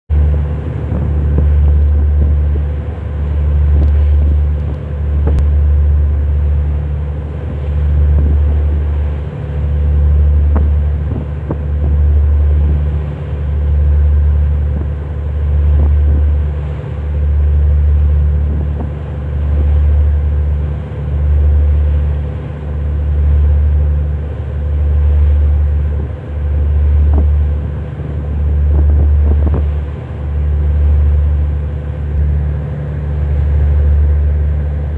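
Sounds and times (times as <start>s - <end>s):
low boat engine rumble: 0.1s - 34.9s.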